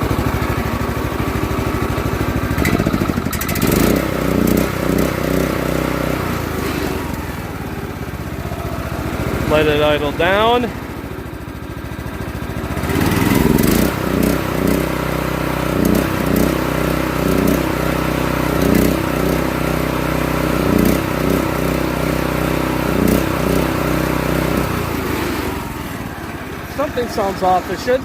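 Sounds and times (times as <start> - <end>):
small engine surging: 0.0 - 28.0.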